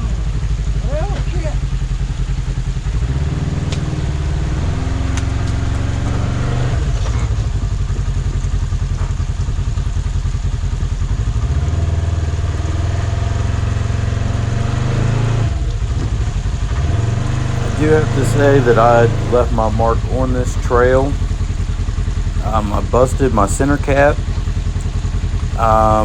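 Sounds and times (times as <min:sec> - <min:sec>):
off-road vehicle engine revving: 0:00.0 - 0:09.4, 0:10.2 - 0:26.0.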